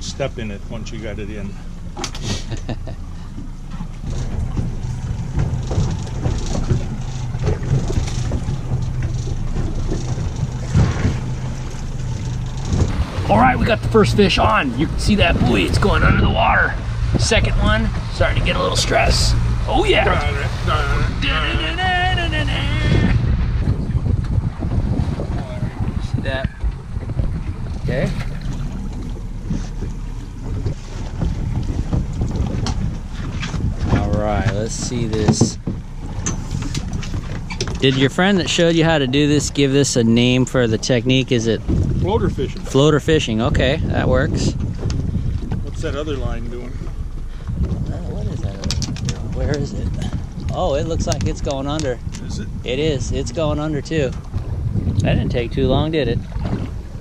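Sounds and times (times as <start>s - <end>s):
boat engine humming: 0.0s - 57.0s
water noise: 0.0s - 57.0s
wind: 0.0s - 57.0s.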